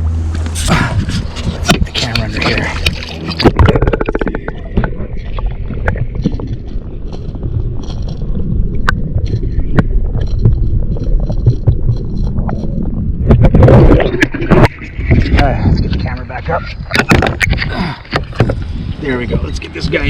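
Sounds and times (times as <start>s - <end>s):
muffled underwater rumble: 0.0s - 20.0s
sharp clicks and knocks: 0.3s - 16.0s, 16.8s - 18.7s.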